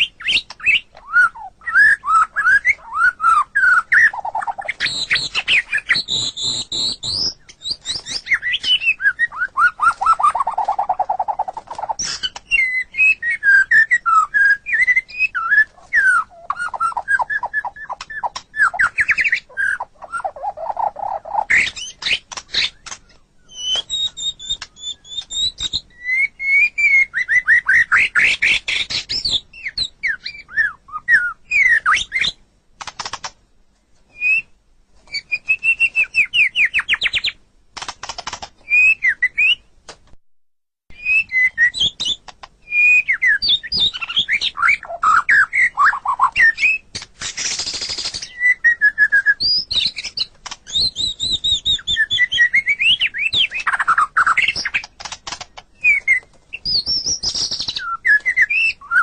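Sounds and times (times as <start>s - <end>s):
bird singing whistles and trills: 0.0s - 32.4s, 34.1s - 37.4s, 38.6s - 39.7s, 40.9s - 55.1s, 55.8s - 59.0s.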